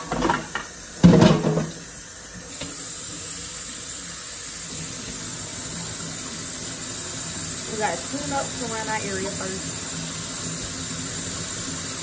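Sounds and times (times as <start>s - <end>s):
kitchen faucet running: 0.0s - 12.0s.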